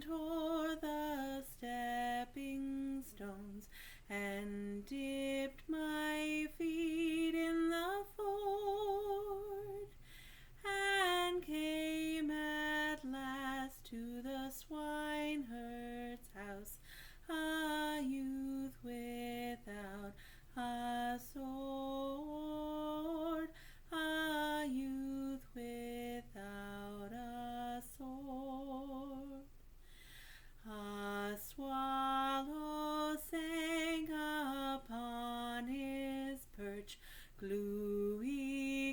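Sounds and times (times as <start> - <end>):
woman singing folk song: 0.0 - 29.6, 30.2 - 38.9.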